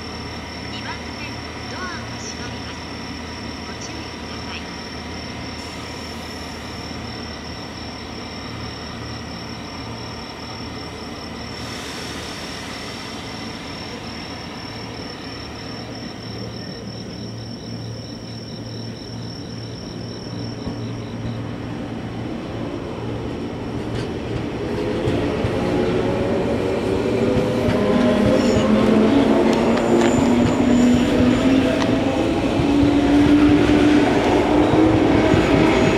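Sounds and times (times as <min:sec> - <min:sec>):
insects chirping: 0:00.0 - 0:35.9
train low hum: 0:00.0 - 0:35.9.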